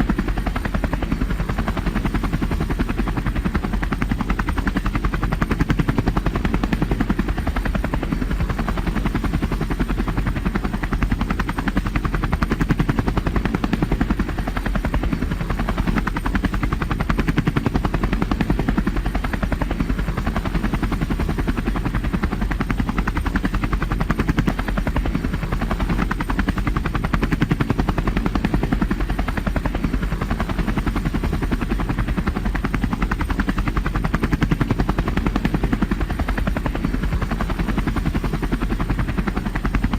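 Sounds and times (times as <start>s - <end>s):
helicopter rotor chopping: 0.0s - 39.9s.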